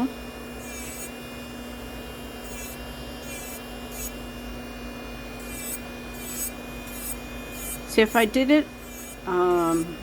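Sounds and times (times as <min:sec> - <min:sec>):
nail drill humming: 0:00.0 - 0:10.0
drill bit grinding fingernail: 0:00.4 - 0:10.0.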